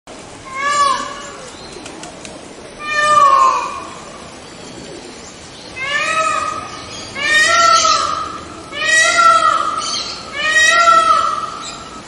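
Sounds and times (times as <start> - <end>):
peacock calling: 0.4 - 1.8, 2.7 - 5.0, 5.7 - 12.0.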